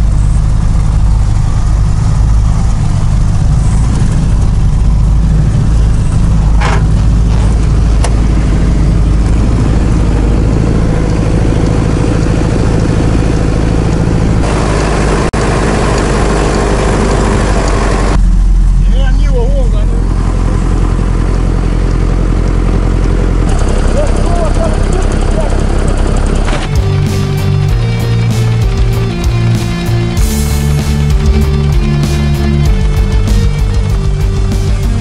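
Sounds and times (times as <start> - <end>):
off-road vehicle engine drone: 0.0 - 35.0.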